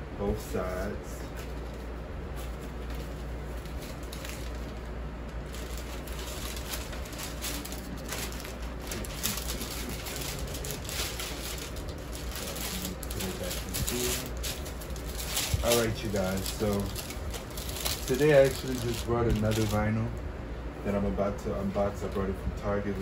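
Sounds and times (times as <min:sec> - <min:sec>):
electric fan running: 0:00.0 - 0:23.0.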